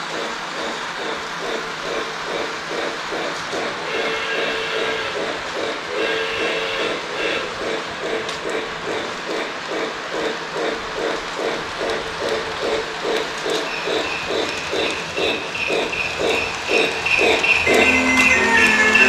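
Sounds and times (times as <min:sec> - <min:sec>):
model steam locomotive chuffing: 0:00.0 - 0:19.0
train rolling on track: 0:00.0 - 0:19.0.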